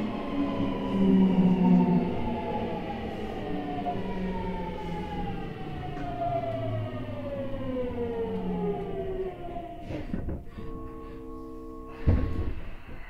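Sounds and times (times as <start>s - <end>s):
train wheels rumbling: 0.0s - 10.7s
train motors whining: 0.0s - 12.6s.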